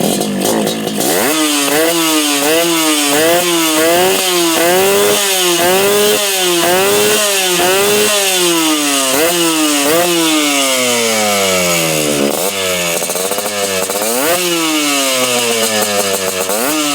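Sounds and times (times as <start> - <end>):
two-stroke engine revving: 0.0 - 16.9.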